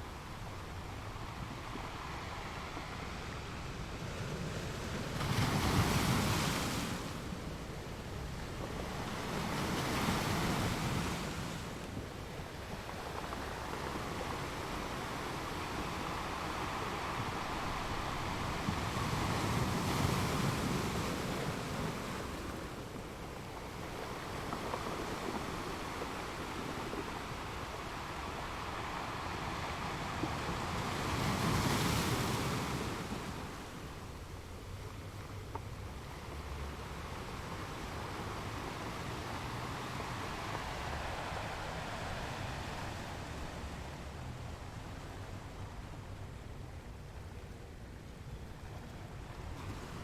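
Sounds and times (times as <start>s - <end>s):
sea waves breaking on shore: 0.0s - 50.0s.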